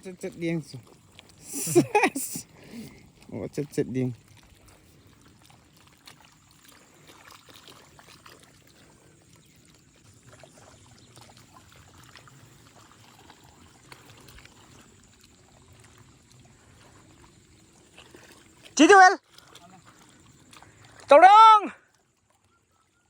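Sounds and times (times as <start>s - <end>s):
faint trickling water: 0.0s - 23.0s
small ticks and drips: 0.1s - 21.1s, 21.8s - 23.0s.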